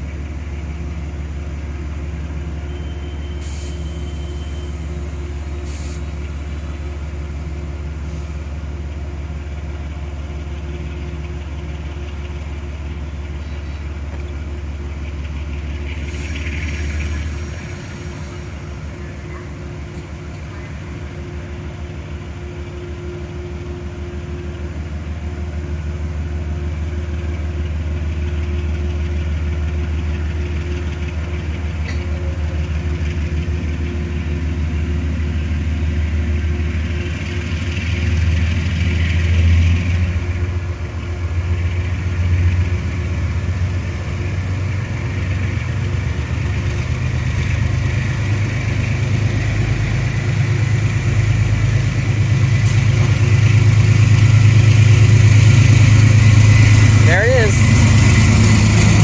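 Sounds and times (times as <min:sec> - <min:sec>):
large diesel engine running: 0:00.0 - 0:59.0.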